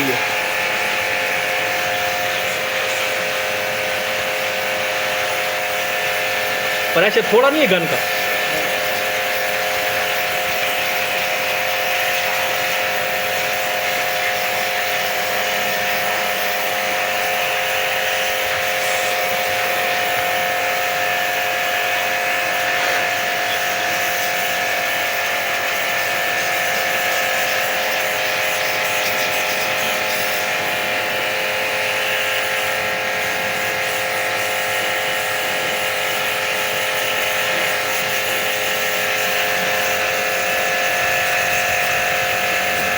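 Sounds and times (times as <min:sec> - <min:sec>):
pressure washer motor buzz: 0:00.0 - 0:42.9
water spray hiss: 0:00.0 - 0:42.9.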